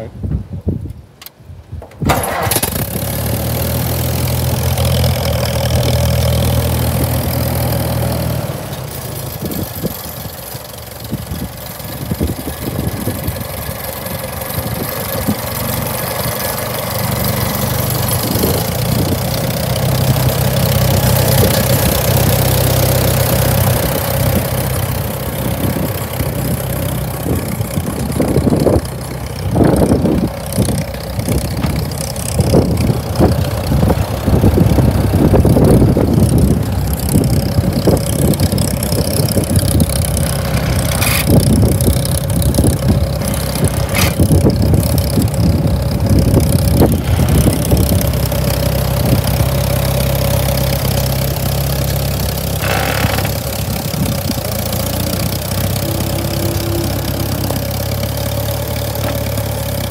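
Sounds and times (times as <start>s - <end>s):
tractor engine idling: 2.1s - 59.9s.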